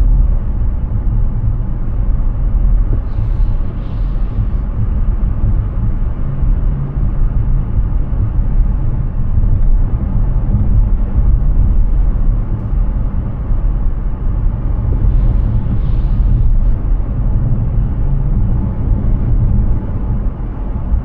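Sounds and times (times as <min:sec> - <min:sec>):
tyre and road noise: 0:00.0 - 0:21.0.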